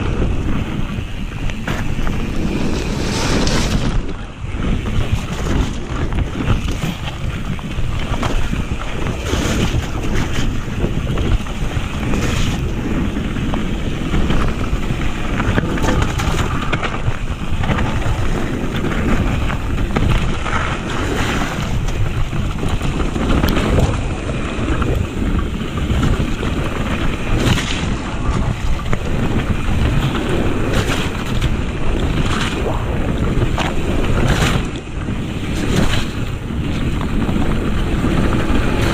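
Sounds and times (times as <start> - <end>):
bike rattling over bumps: 0.0 - 38.9
tyres rumbling on gravel: 0.0 - 38.9
wind on microphone: 0.0 - 38.9.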